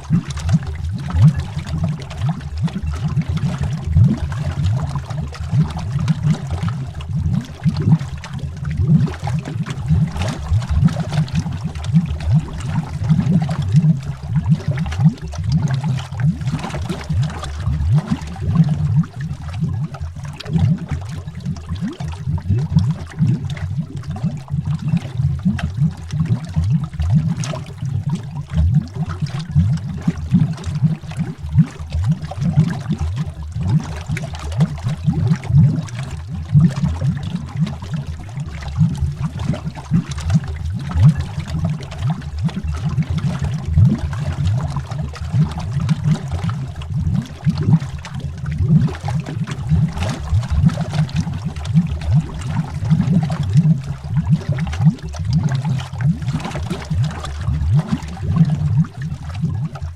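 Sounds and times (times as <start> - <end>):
underwater bubbles rising: 0.0 - 59.9.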